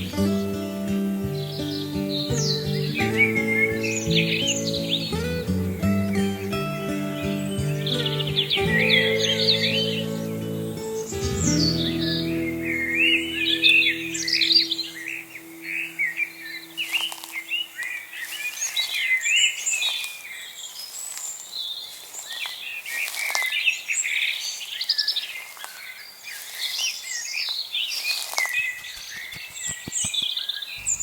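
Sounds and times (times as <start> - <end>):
songbirds singing: 0.0 - 31.0.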